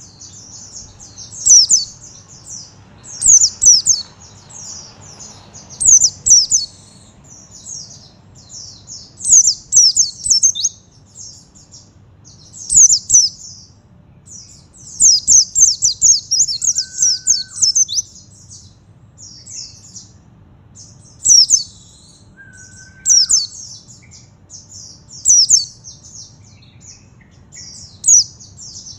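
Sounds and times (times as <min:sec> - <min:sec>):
bird twittering: 0:00.0 - 0:13.7, 0:14.3 - 0:20.1, 0:20.8 - 0:28.9.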